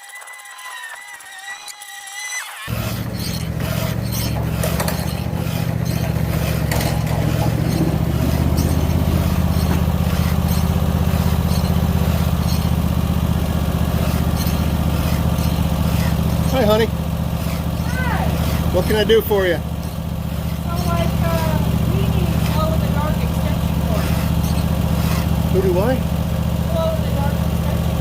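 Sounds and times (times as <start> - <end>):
engine running: 2.4 - 28.0.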